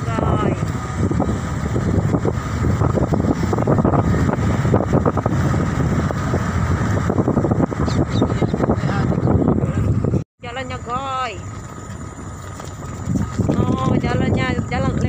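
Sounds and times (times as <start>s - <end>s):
car driving rumble: 0.0s - 15.0s
wind buffeting microphone: 0.0s - 15.0s.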